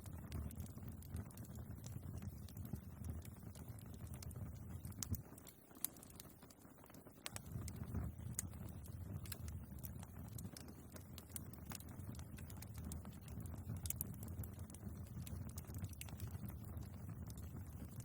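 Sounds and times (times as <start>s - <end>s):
crackles and pops of burning logs: 0.0s - 18.0s
low rumble of flames: 0.0s - 18.0s.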